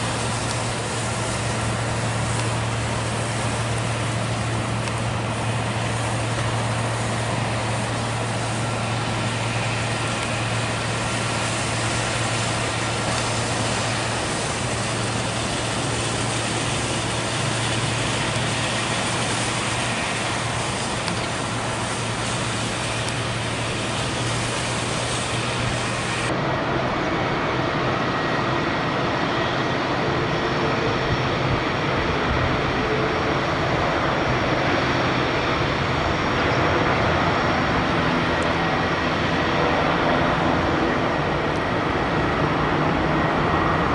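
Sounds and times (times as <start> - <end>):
distant jet engines droning: 0.0 - 43.9.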